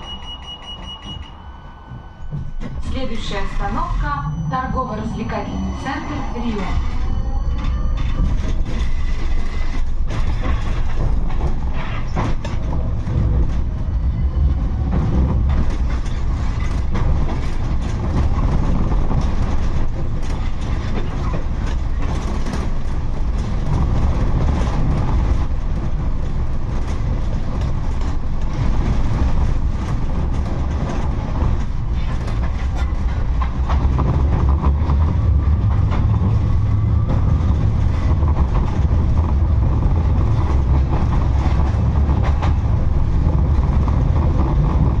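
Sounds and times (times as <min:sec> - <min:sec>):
tram wheels rumbling on rail: 0:00.0 - 0:45.0.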